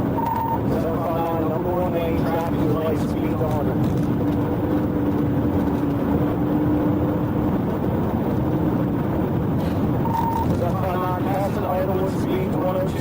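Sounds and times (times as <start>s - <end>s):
car engine at high speed: 0.0s - 13.0s.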